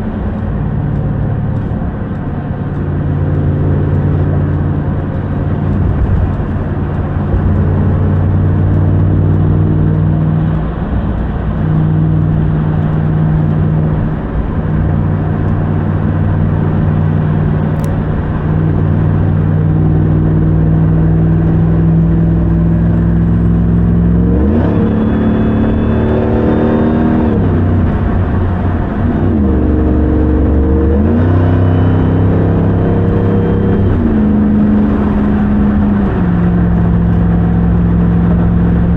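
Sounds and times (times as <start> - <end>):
truck engine accelerating: 0.0 - 38.9.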